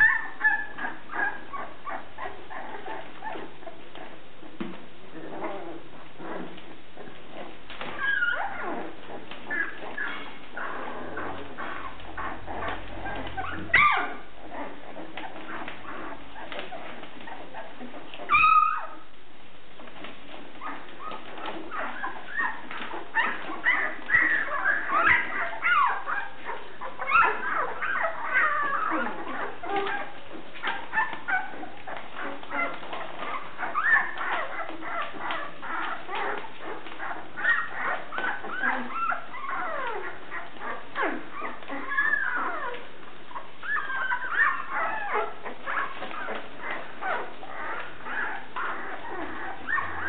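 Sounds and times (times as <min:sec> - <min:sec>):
puppies whimpering and squeaking: 0:00.0 - 0:50.0
sharp puppy cries: 0:07.9 - 0:19.1, 0:20.6 - 0:50.0.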